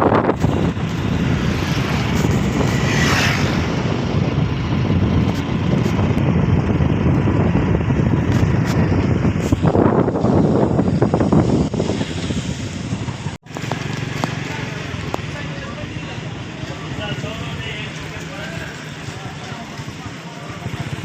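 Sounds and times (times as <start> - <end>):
vehicle road and engine noise: 0.0 - 21.0
wind rumbling on microphone: 0.0 - 21.0.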